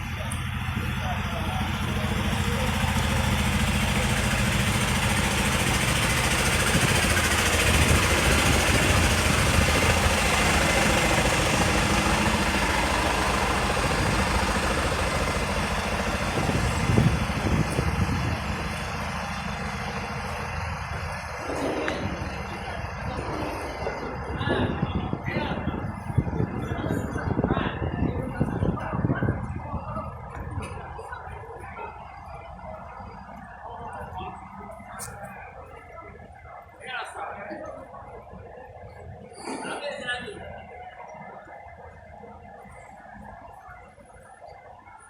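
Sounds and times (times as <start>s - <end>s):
subway train rumbling: 0.0s - 45.0s.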